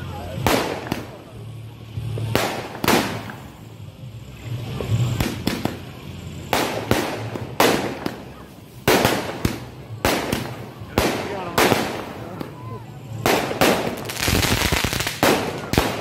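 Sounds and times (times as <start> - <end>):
fireworks bangs: 0.3 - 3.8, 4.6 - 16.0.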